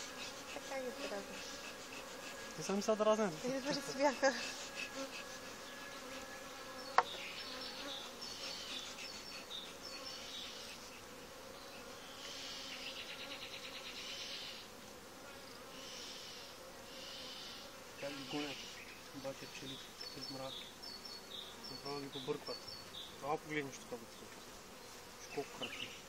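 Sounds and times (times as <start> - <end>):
bees humming: 0.0 - 26.0.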